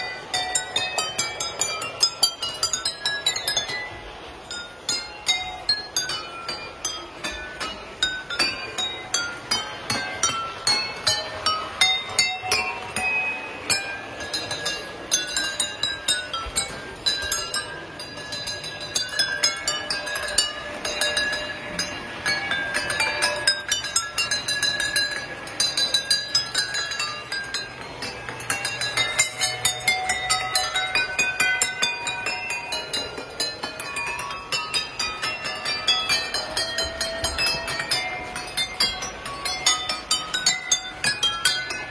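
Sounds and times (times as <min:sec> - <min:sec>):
wine glasses clinking melody: 0:00.0 - 0:41.9.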